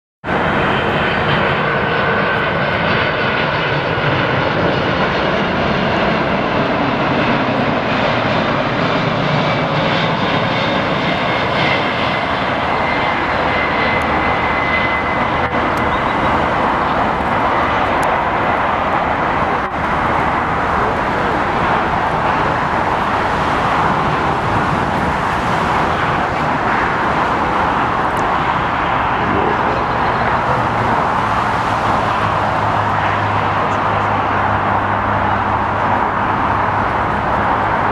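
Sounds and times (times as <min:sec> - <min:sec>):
jet engines rushing and whining: 0:00.2 - 0:37.9.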